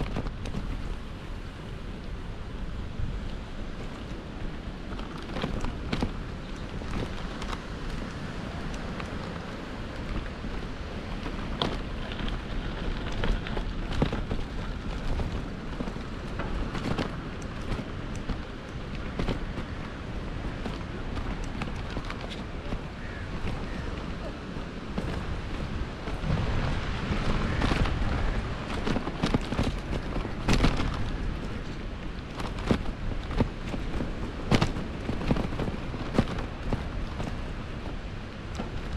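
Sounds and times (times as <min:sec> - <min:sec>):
bicycle rattling knocks: 0:00.0 - 0:01.0, 0:04.8 - 0:38.9
bicycle tyre rumble: 0:00.0 - 0:38.9
wind rush on microphone: 0:00.0 - 0:38.9.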